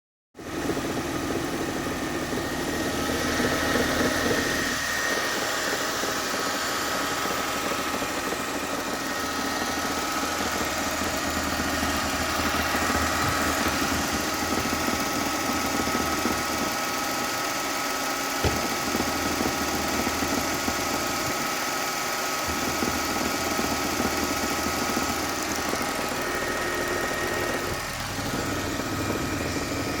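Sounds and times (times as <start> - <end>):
car engine idling with rattle: 0.4 - 30.0.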